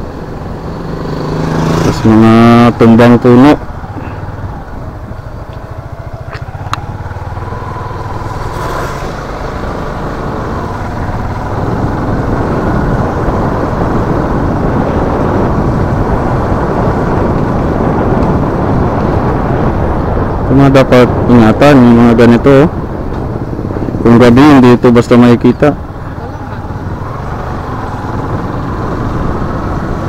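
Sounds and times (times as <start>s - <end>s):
road and wind noise: 0.0s - 30.0s.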